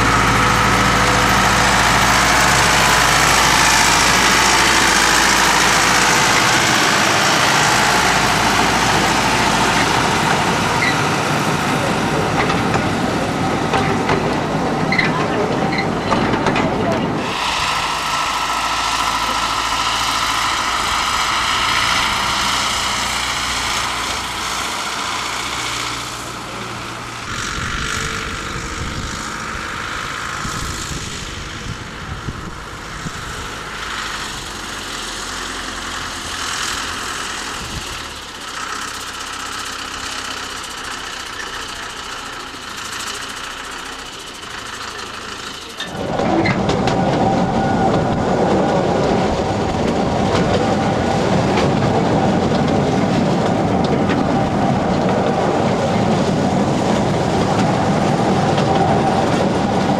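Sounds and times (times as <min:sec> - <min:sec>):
locomotive diesel engine idling: 0:00.0 - 0:59.9.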